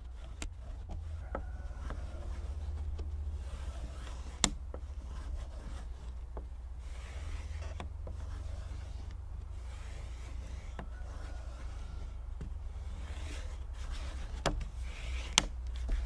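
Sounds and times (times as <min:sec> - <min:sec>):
paper tape rustling: 0:00.0 - 0:16.0.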